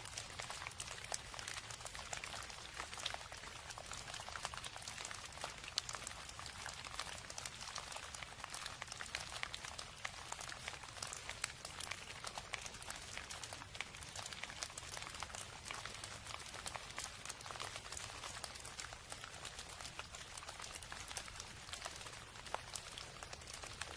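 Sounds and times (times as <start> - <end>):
steady rain patter: 0.0 - 23.9.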